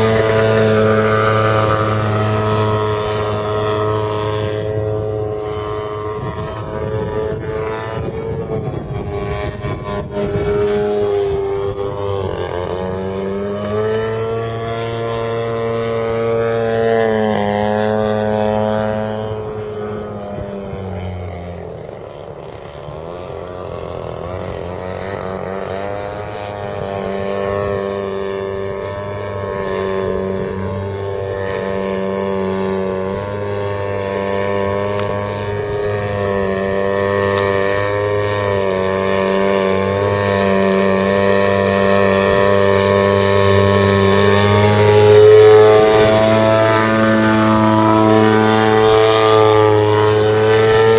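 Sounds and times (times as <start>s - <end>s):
model plane engine and propeller: 0.0s - 50.9s.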